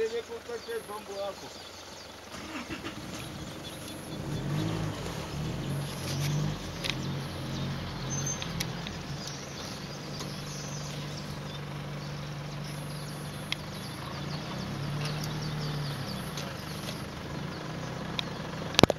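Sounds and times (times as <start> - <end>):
vehicle engine idling: 0.0 - 18.9
weaver birds chirping: 0.0 - 18.9.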